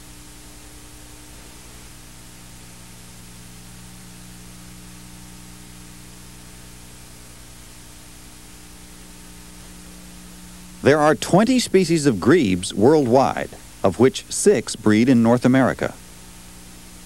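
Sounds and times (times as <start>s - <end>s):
low electrical hum: 0.0s - 17.0s
tape hiss: 0.0s - 17.0s.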